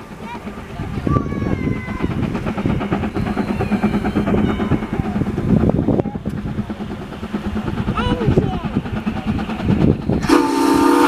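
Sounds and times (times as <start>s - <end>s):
steam locomotive exhaust chuffs: 0.0s - 11.0s
wheels clattering on rail: 0.0s - 11.0s.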